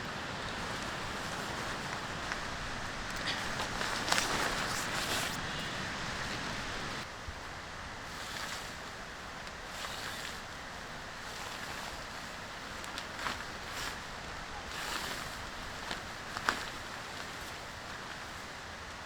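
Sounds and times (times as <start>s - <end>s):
sea waves washing on shore: 0.0s - 18.8s
wind: 0.0s - 19.0s.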